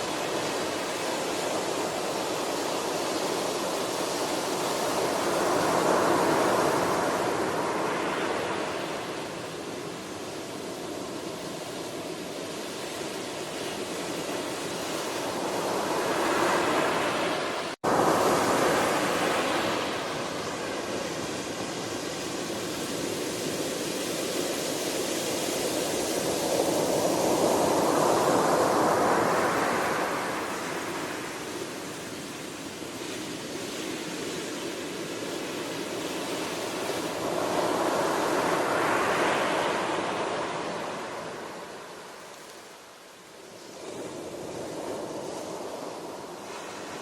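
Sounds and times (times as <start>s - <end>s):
ocean waves washing on shore: 0.0s - 47.0s.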